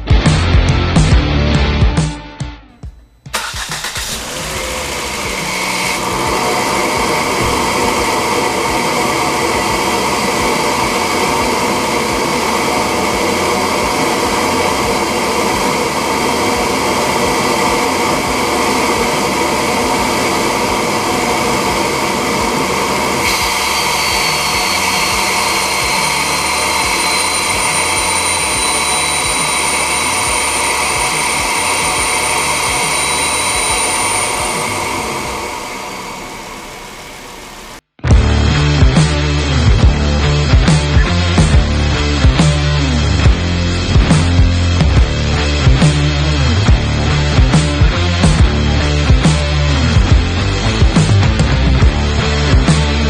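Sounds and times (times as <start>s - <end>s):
car engine running: 3.1s - 53.0s
high thin whine: 3.3s - 53.0s.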